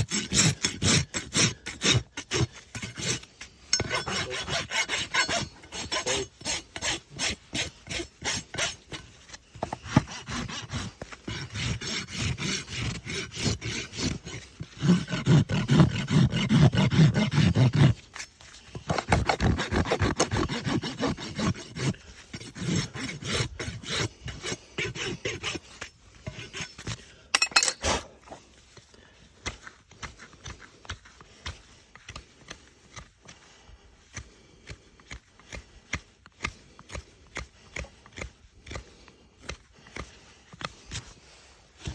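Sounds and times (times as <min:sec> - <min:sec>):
rasp filing a hoof: 0:00.0 - 0:41.9.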